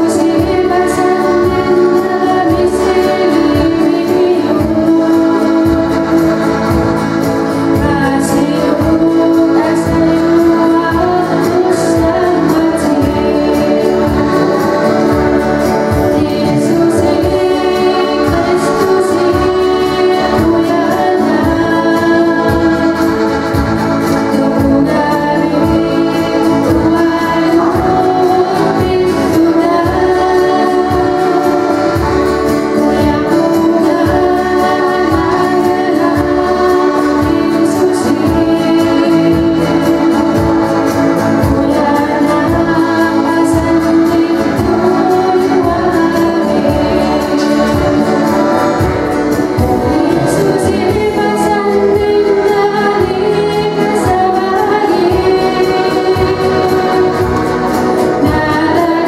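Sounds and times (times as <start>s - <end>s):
instrumental accompaniment with beat: 0.0s - 59.0s
voices singing worship song: 0.0s - 59.0s.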